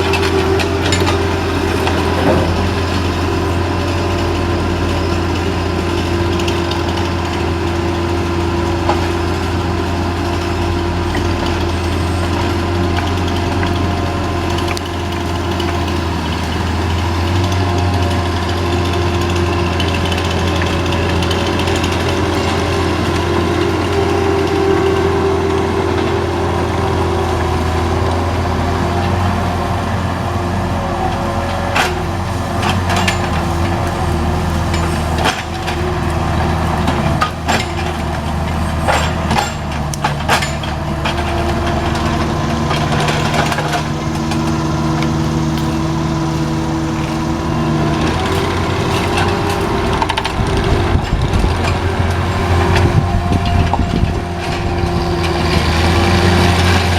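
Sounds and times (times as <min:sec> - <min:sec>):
large engine running steadily: 0:00.0 - 0:56.9.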